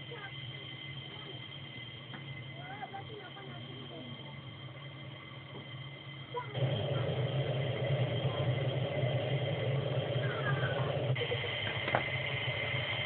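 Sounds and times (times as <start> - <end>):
turbine engines idling: 0.0 - 13.0.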